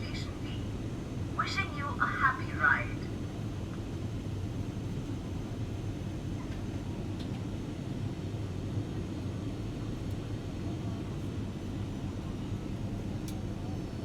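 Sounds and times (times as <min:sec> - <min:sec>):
airliner cabin rumble in flight: 0:00.0 - 0:14.0.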